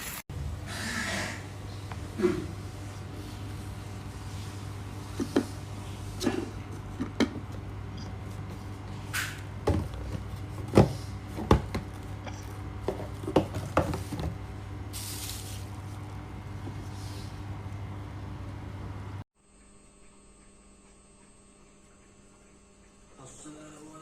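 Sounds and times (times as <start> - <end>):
low electrical hum: 0.1 - 24.0.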